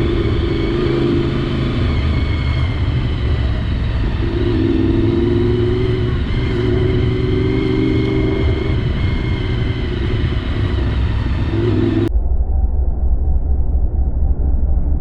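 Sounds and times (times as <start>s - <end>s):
motorcycle engine running: 0.0s - 12.1s
wind rumble on microphone: 0.0s - 15.0s.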